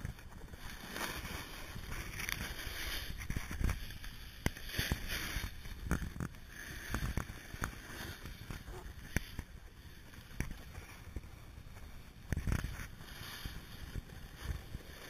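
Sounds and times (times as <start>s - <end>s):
skis scraping over snow: 0.0s - 15.0s.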